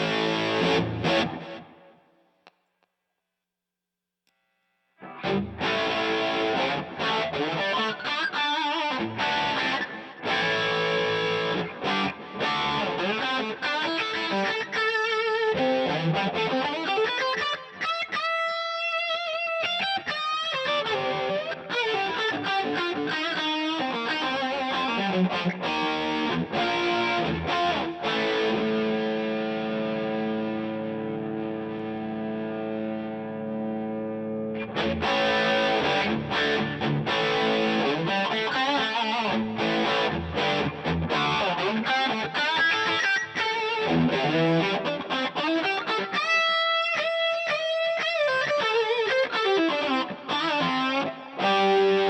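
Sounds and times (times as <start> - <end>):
distorted electric guitar: 0.0 - 2.0, 4.4 - 52.0.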